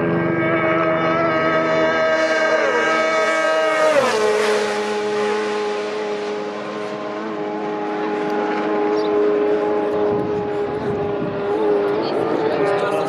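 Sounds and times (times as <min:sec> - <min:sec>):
racing motorcycle passing: 0:00.0 - 0:13.0.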